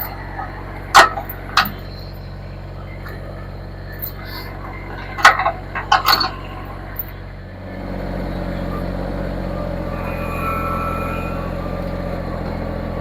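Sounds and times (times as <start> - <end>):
tractor engine revving: 0.0 - 13.0.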